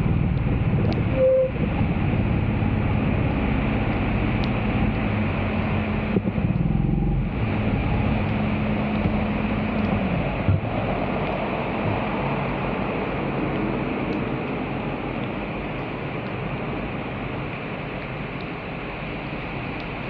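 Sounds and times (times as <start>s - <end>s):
low hum: 0.0s - 20.0s
rain falling on flooded street: 0.0s - 20.0s
wind rumbling on microphone: 0.0s - 20.0s.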